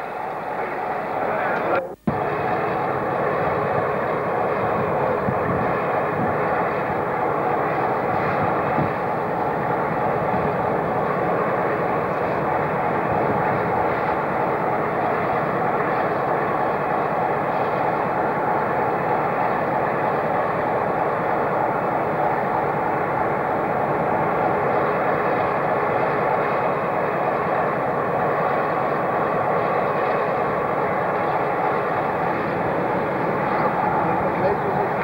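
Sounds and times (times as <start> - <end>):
standing train mechanical drone: 0.0 - 35.0.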